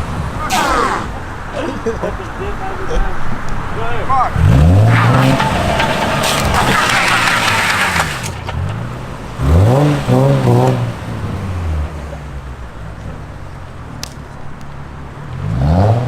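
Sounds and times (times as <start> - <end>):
car engine idling and revving: 1.1 - 16.0.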